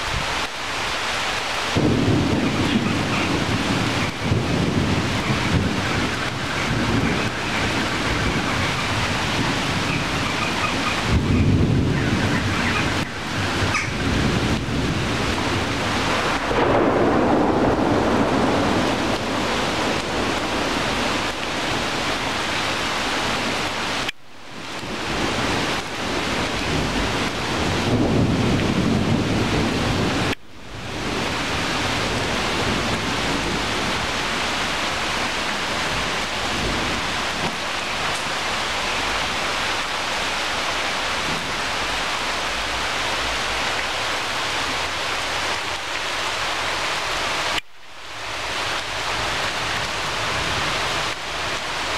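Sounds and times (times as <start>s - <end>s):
heavy rain on tree leaves: 0.0s - 51.9s.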